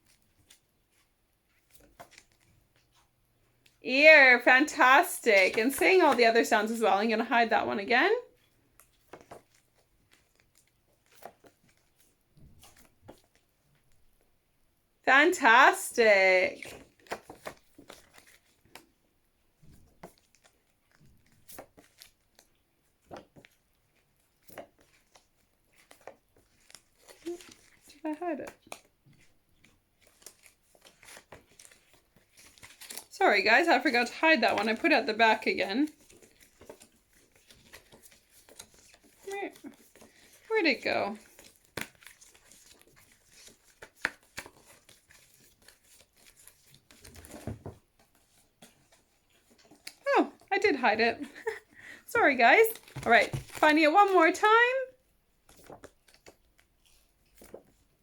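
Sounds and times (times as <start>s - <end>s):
paper cards rustling and tapping: 0.0s - 7.5s, 8.4s - 14.2s, 16.5s - 19.0s, 19.6s - 51.7s, 52.3s - 54.4s, 55.4s - 58.0s.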